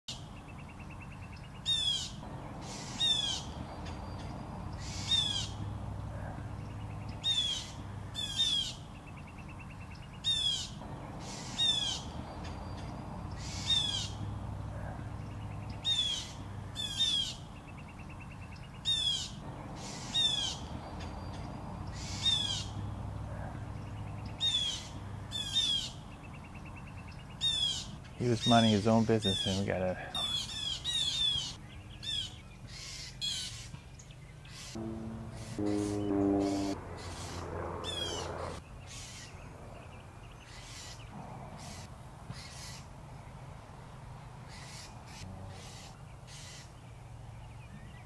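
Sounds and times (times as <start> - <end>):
harsh scolding bird calls: 0.1 - 42.9, 44.4 - 48.0.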